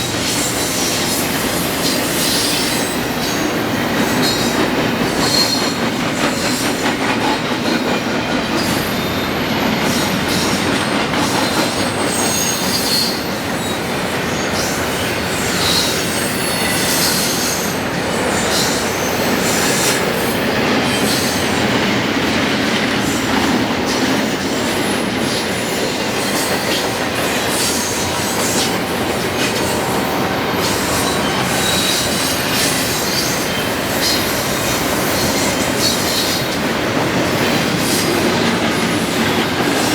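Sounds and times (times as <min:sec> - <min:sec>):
train wheels rumbling on rails: 0:00.0 - 0:39.9
wheel squeals: 0:00.2 - 0:21.6, 0:23.1 - 0:36.7.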